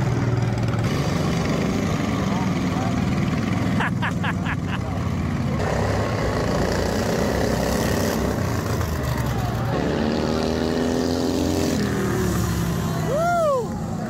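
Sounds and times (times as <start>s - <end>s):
racing lawn mower engines revving: 0.0s - 14.0s.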